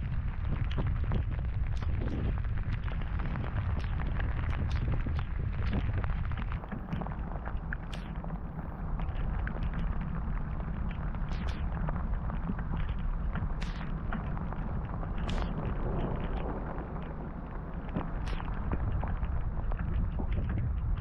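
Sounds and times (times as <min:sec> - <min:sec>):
rain drops hitting close: 0:00.0 - 0:21.0.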